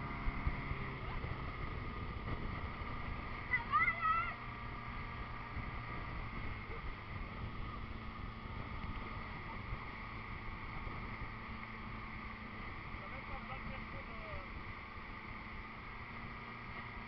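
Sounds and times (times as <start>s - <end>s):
motorboat engine running: 0.0s - 17.0s
water rushing: 0.0s - 17.0s
wind: 0.0s - 17.0s.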